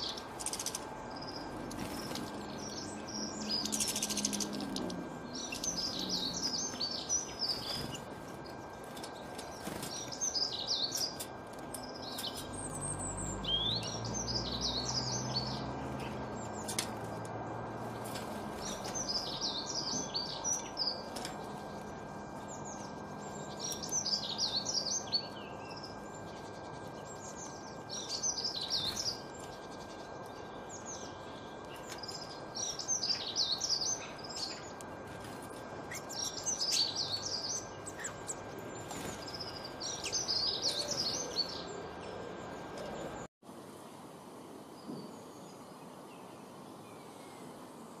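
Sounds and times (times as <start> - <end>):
low drone: 0.0 - 43.3.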